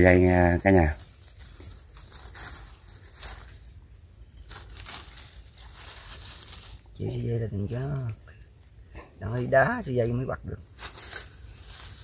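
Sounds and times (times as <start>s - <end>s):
sticks and leaves crackling: 0.0s - 12.0s.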